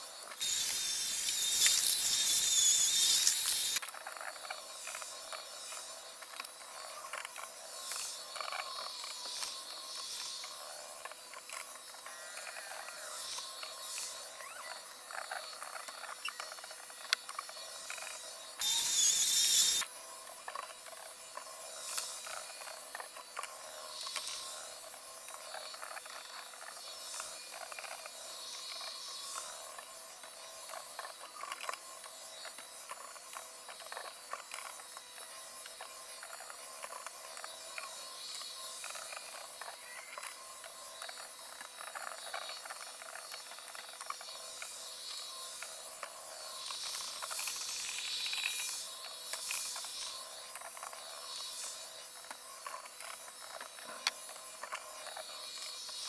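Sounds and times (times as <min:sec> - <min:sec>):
robot vacuum clicking and whirring: 0:00.0 - 0:56.0.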